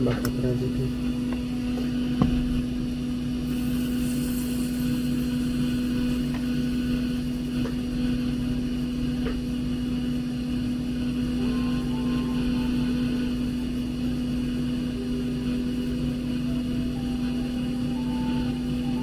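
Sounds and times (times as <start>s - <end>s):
electrical hum with fan whir: 0.0s - 19.0s.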